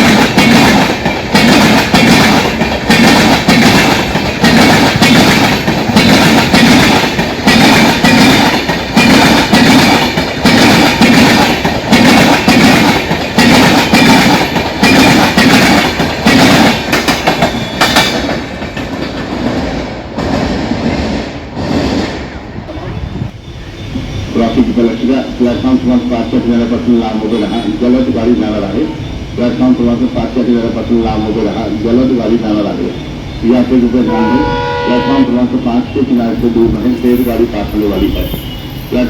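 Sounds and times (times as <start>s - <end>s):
train wheels clattering on rails: 0.0s - 34.1s, 35.5s - 39.0s.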